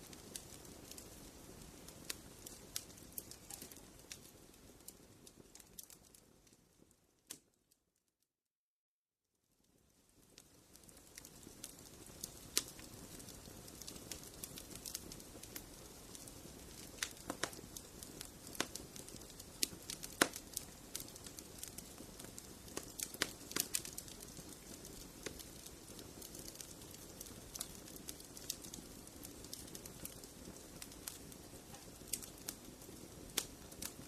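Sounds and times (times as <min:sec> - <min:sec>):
wood fire crackling and popping: 0:00.0 - 0:07.6, 0:09.6 - 0:34.0.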